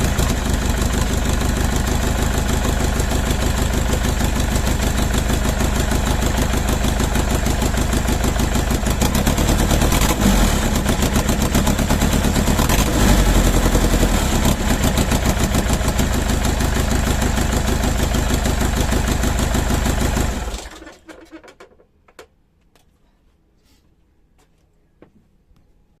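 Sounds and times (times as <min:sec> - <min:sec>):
diesel engine running: 0:00.0 - 0:20.8.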